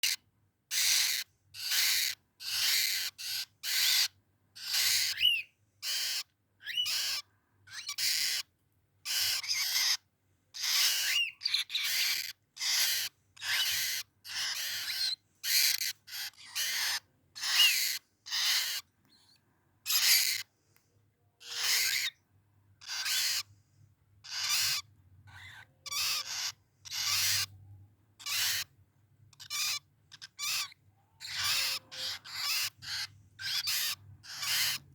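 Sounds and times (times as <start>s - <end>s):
birds giving harsh screech calls: 0.0s - 20.5s, 21.4s - 22.2s, 22.8s - 23.5s, 24.2s - 27.6s, 28.2s - 34.9s
faint bird chirp: 0.0s - 20.5s, 21.2s - 23.6s, 24.2s - 34.9s.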